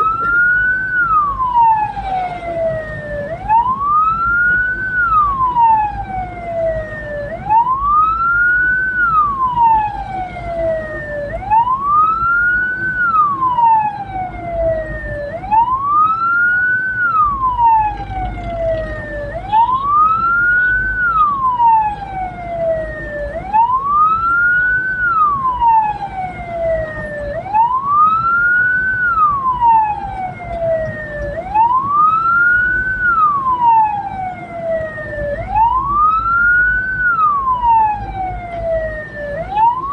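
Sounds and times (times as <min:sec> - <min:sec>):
siren wailing: 0:00.0 - 0:39.9
vehicle driving rumble: 0:00.0 - 0:39.9.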